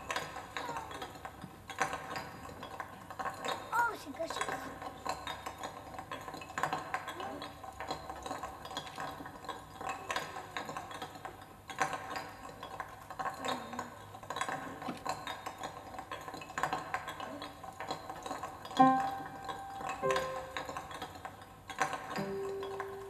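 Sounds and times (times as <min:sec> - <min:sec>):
small metallic clicks and scrapes: 0:00.0 - 0:18.8.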